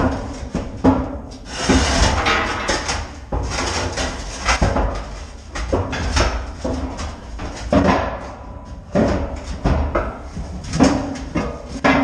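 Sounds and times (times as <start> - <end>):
metal cans clanking and scraping: 0.0 - 12.0.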